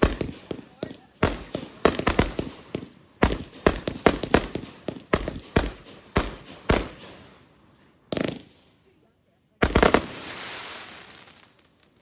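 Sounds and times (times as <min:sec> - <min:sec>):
fireworks bangs: 0:00.0 - 0:07.4, 0:08.1 - 0:08.9, 0:09.6 - 0:12.0.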